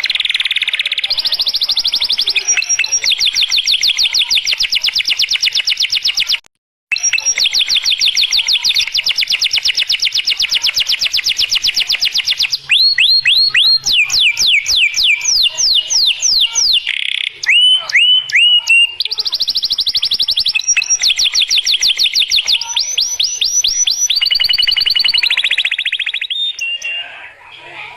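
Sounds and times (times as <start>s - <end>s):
canary singing: 0.0s - 27.9s.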